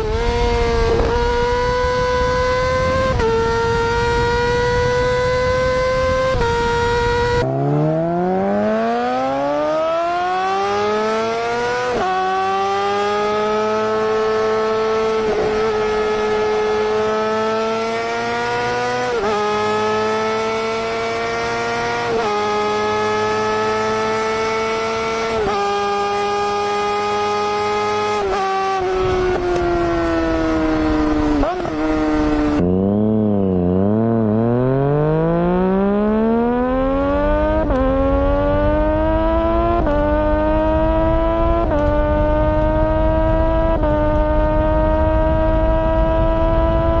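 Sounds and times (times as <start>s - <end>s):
motorcycle engine screaming at high revs: 0.0s - 47.0s.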